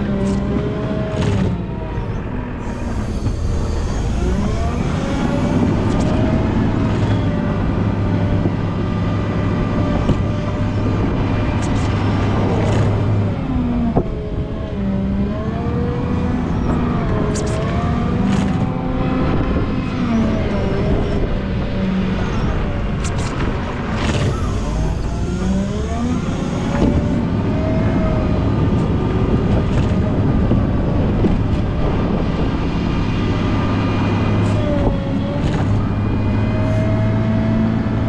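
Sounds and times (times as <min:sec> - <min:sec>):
diesel engine revving under load: 0:00.0 - 0:38.0
steady low drone: 0:00.0 - 0:38.0.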